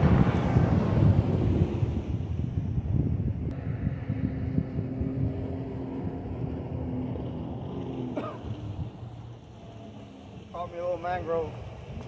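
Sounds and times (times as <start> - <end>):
motorboat engine drone: 0.0 - 12.0
wind buffeting microphone: 0.0 - 12.0.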